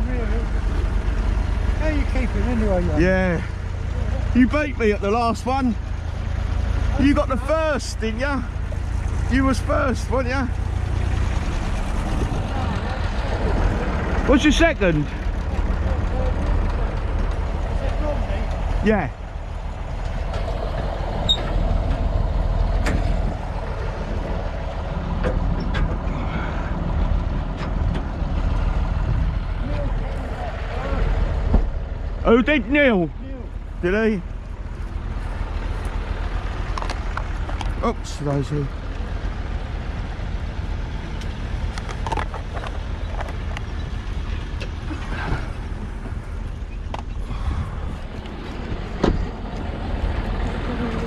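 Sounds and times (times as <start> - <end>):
vehicle engine rumbling: 0.0 - 51.0.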